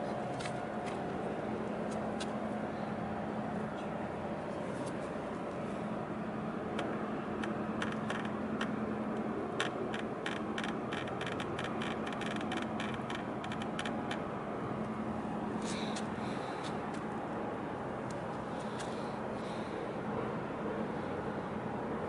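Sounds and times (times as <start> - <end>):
low steady hum: 0.0 - 22.0
noisy wash: 0.0 - 22.0.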